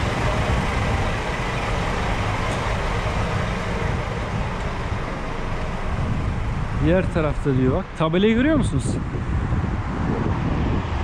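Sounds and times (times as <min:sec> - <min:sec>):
truck engine idling: 0:00.0 - 0:09.7
road traffic: 0:00.0 - 0:11.0.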